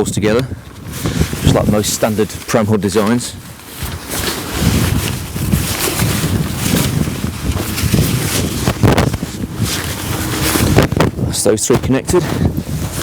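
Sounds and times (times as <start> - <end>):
tent fabric and poles rustling: 0.0 - 13.0
wind buffeting microphone: 0.0 - 13.0.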